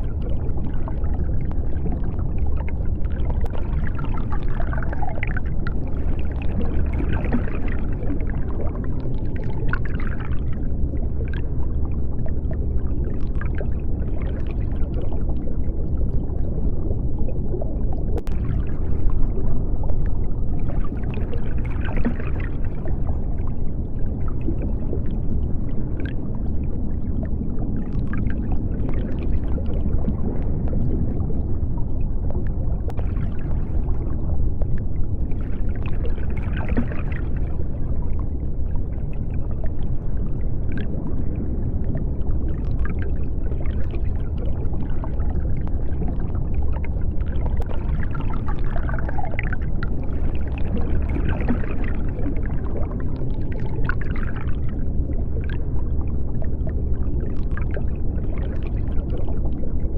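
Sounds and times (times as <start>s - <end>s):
bubbling and gurgling: 0.0s - 59.9s
deep underwater rumble: 0.0s - 59.9s.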